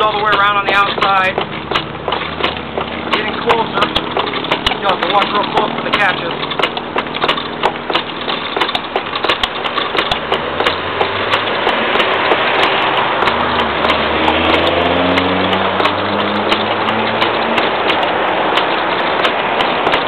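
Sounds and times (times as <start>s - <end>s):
gouge clicking on turning wood: 0.0s - 20.0s.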